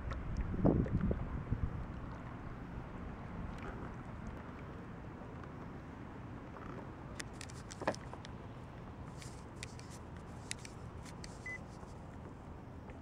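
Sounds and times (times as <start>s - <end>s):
water lapping around a kayak: 0.0s - 13.0s.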